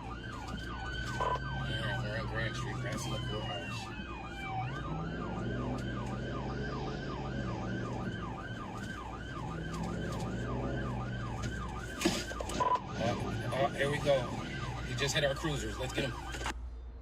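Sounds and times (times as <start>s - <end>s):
police siren yelp: 0.0s - 16.6s
car engine humming: 0.0s - 17.0s.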